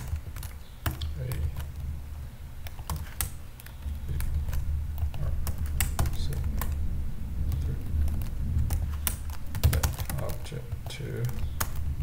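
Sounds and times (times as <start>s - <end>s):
keyboard typing: 0.0s - 1.9s, 2.6s - 6.8s, 7.4s - 12.0s
steady low hum: 0.0s - 12.0s.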